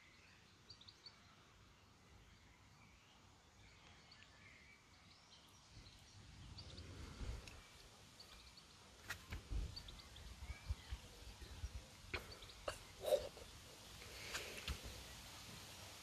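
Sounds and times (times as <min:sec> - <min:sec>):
faint bird chirps: 0:00.0 - 0:15.3.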